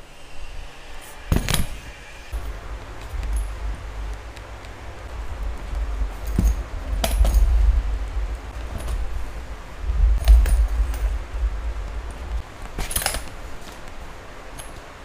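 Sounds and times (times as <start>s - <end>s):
low handling rumble: 0.0s - 14.5s.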